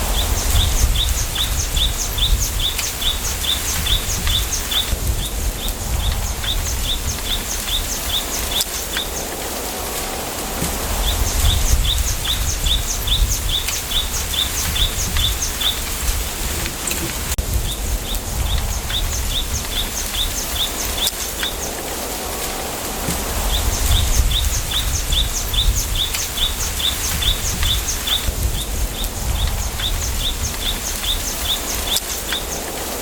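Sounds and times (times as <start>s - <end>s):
small bird chirping: 0.0s - 9.3s, 10.9s - 16.2s, 17.6s - 21.8s, 23.4s - 32.7s
low wind rumble: 0.0s - 33.0s.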